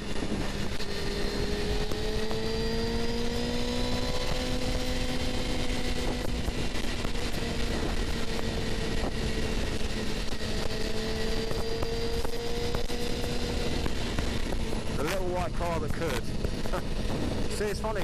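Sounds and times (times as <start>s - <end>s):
motorcycle engine cruising: 0.0s - 18.0s
wind rush on microphone: 0.0s - 18.0s.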